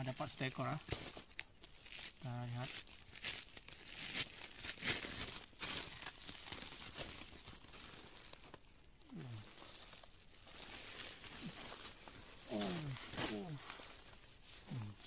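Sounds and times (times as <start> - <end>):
plastic sack rustling: 0.0 - 15.0.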